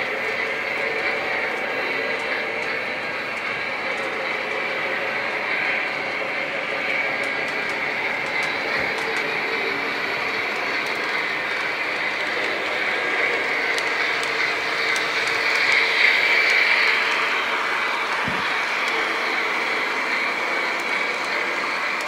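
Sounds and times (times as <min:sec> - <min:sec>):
model trains running on track: 0:00.0 - 0:22.0.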